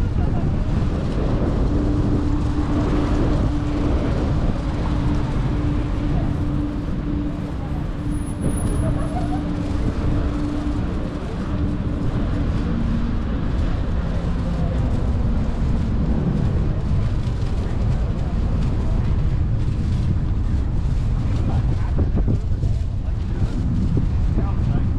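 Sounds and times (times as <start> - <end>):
road traffic rumble: 0.0 - 24.9
voices of passers-by: 0.0 - 24.9.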